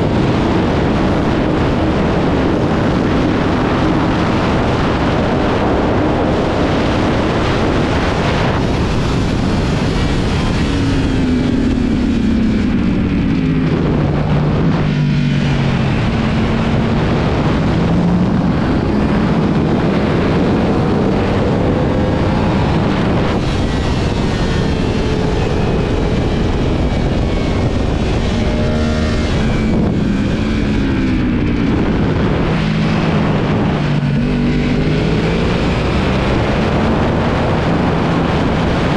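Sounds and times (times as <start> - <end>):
motorcycle engine at speed: 0.0 - 38.9
wind noise on microphone: 0.0 - 38.9.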